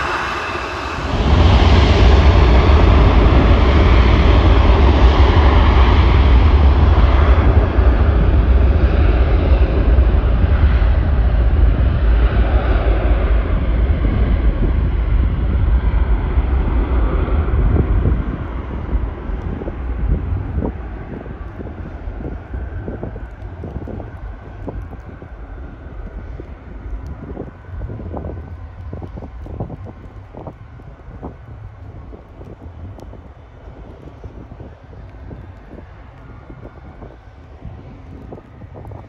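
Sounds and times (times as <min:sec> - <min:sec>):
jet engines roaring on takeoff: 0:00.0 - 0:39.0.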